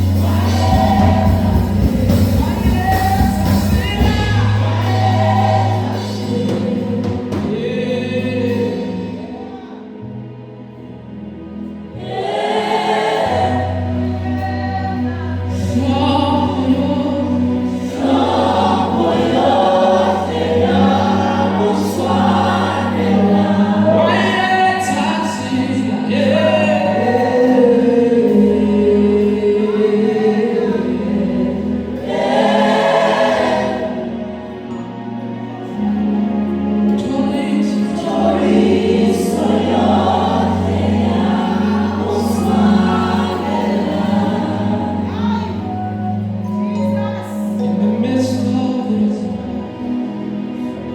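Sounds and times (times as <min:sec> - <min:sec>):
gospel choir singing: 0:00.0 - 0:50.9.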